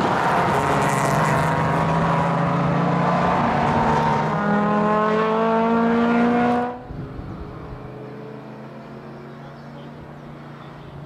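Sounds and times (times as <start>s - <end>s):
race car engines at full throttle: 0.0s - 11.0s.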